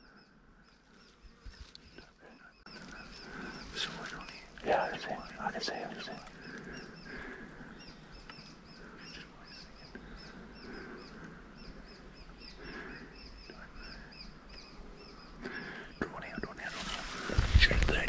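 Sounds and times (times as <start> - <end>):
bird chirping: 0.0 - 18.0
soft low bird calls: 0.0 - 18.0.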